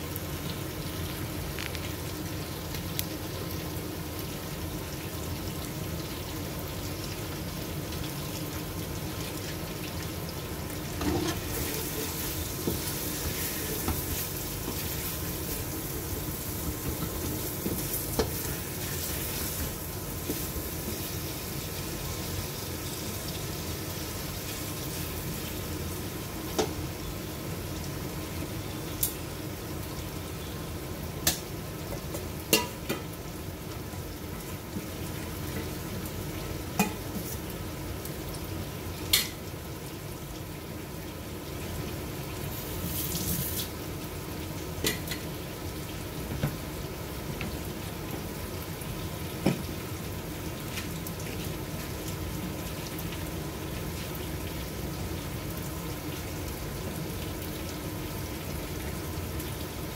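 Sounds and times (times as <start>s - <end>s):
curry sizzling in a pot: 0.0s - 59.9s.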